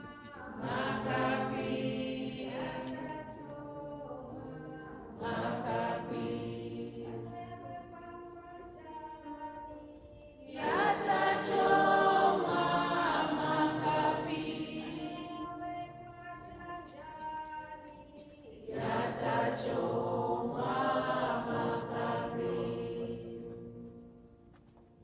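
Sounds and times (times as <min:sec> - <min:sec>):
choir singing a hymn: 0:00.0 - 0:24.3.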